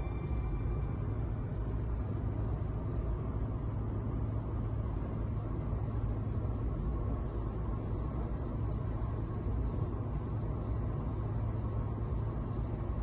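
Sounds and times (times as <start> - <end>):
car engine drone: 0.0 - 13.0
road and tyre rumble: 0.0 - 13.0.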